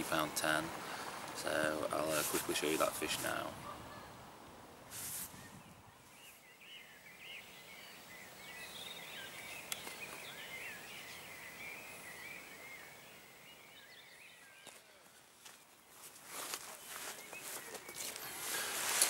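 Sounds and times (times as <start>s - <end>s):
songbirds singing: 0.0s - 4.4s, 5.4s - 15.8s, 16.4s - 19.0s
soft background hiss: 0.0s - 19.0s.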